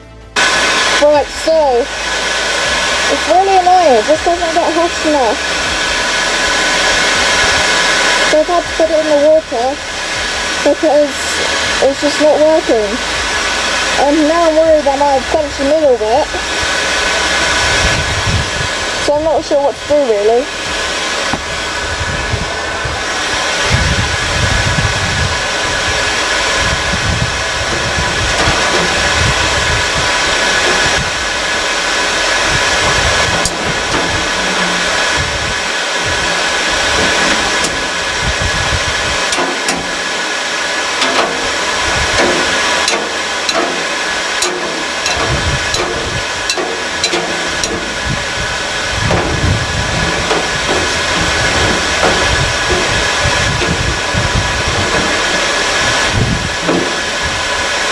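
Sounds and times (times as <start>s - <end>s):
forge blower rushing air: 0.0s - 57.9s.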